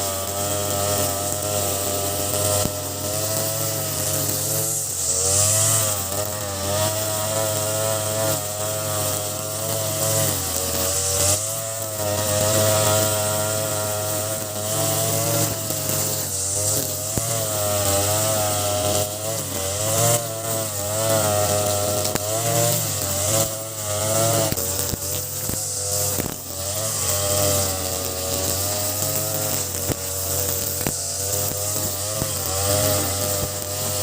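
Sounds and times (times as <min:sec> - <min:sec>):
brush cutter cutting grass: 0:00.0 - 0:34.0.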